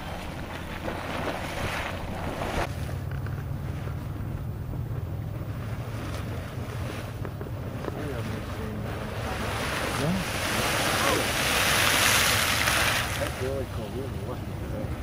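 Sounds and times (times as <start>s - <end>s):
boiling water churning and splashing: 0.0s - 15.0s.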